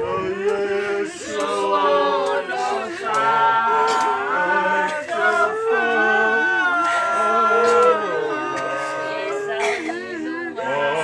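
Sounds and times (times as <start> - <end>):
choir singing unaccompanied: 0.0 - 11.0.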